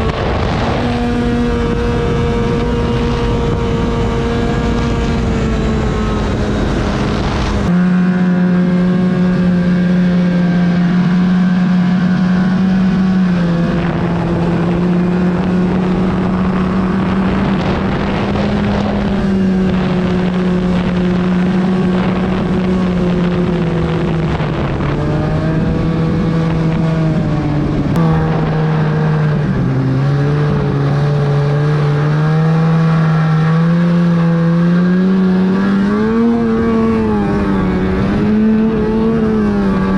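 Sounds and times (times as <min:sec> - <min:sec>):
low wind noise rumble: 0:00.0 - 0:39.9
snowmobile engine running: 0:00.0 - 0:39.9.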